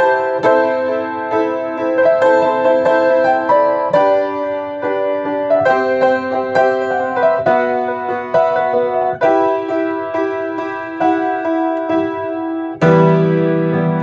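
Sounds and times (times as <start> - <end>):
slow solo piano: 0.0 - 14.0.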